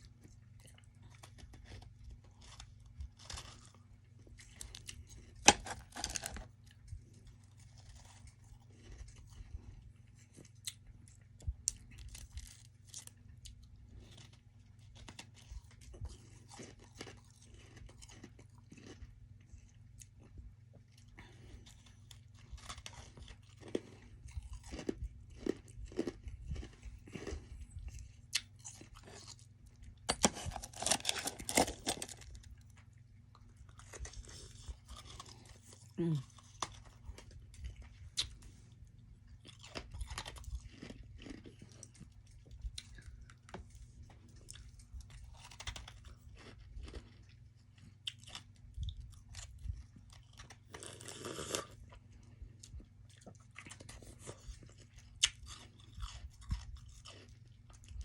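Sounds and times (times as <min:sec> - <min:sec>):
chewing crunchy ice: 0:00.0 - 0:58.0
steady low hum: 0:00.0 - 0:58.0.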